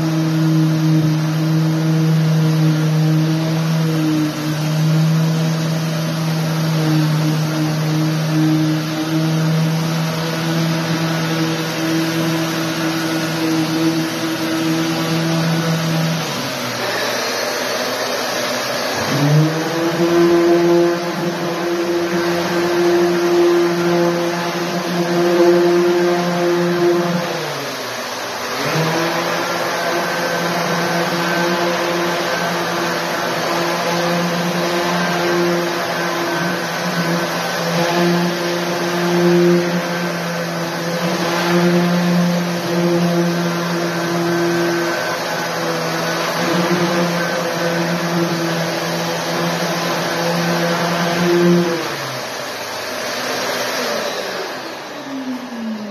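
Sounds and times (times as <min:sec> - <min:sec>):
power sander with dust extractor: 0:00.0 - 0:55.9.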